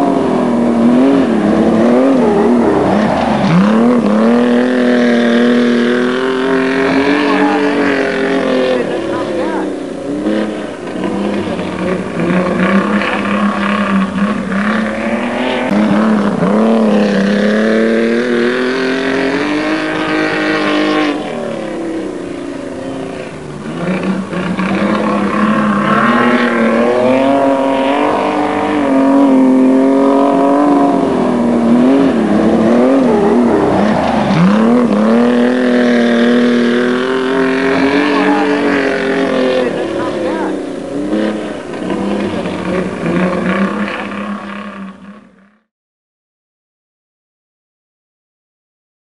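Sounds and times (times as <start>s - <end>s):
race car engines revving: 0.0s - 45.7s.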